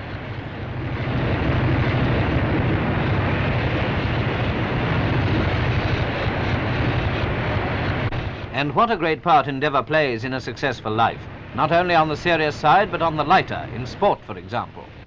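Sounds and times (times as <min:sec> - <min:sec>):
factory machinery din: 0:00.0 - 0:15.0
low hum: 0:00.0 - 0:15.0.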